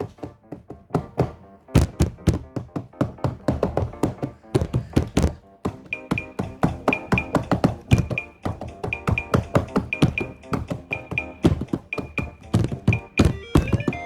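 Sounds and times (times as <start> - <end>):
rhythmic knock sample melody: 0.2 - 14.0.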